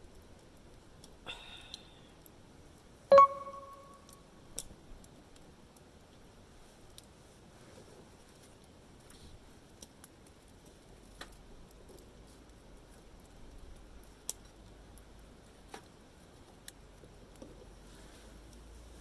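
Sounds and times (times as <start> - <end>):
campfire crackling and popping: 0.0 - 3.0, 4.5 - 18.8.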